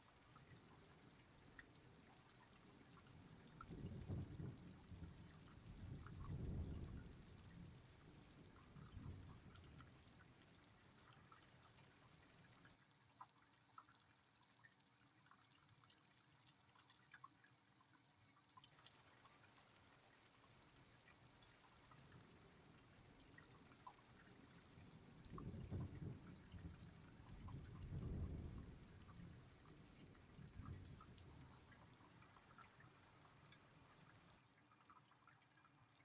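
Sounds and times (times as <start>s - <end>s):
faint rain: 0.0s - 36.0s
water dripping and trickling: 0.0s - 36.0s.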